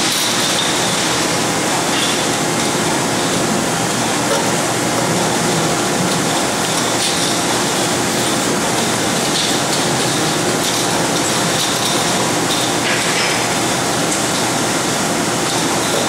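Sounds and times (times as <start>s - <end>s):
loud machinery noise: 0.0s - 16.0s.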